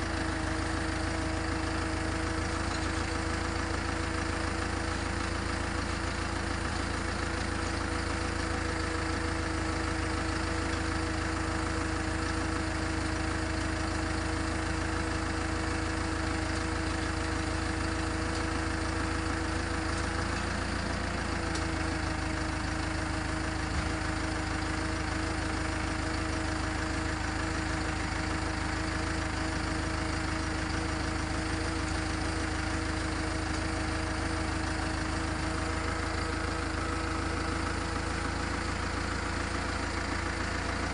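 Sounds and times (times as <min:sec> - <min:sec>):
backhoe engine idling: 0:00.0 - 0:40.9.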